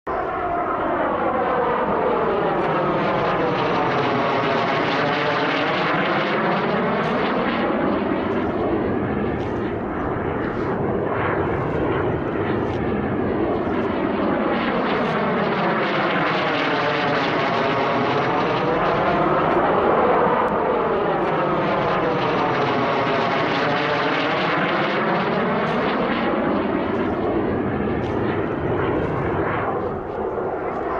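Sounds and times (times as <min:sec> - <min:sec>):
model jet turbine engines: 0:00.1 - 0:30.9.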